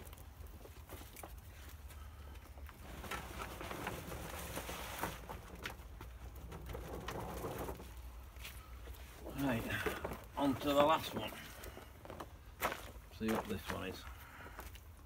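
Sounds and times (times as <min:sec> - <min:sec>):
steps and rustles on mulch: 0:00.0 - 0:15.0.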